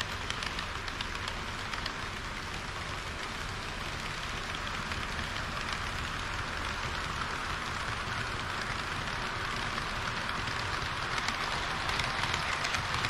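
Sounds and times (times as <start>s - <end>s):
model trains rolling on track: 0.0s - 13.0s.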